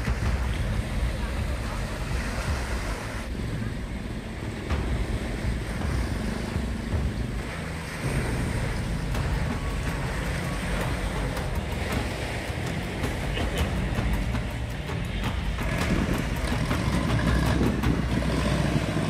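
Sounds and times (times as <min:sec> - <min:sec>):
sea water washing at shore: 0:00.0 - 0:19.0
wind buffeting microphone: 0:00.0 - 0:19.0.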